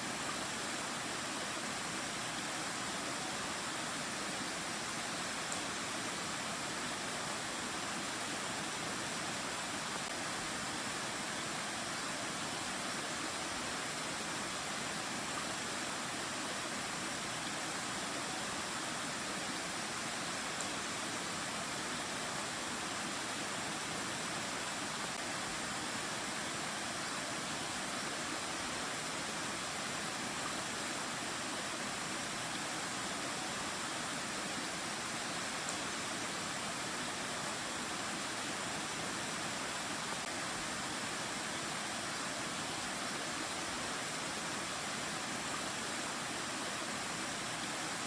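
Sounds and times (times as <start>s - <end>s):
stream flowing over rocks: 0.0s - 48.0s.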